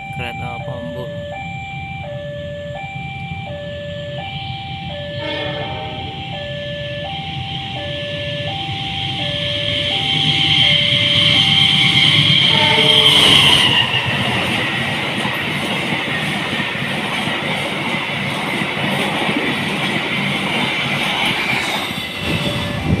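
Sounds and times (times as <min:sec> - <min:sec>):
train wheels rumbling and rattling: 0:03.0 - 0:23.0.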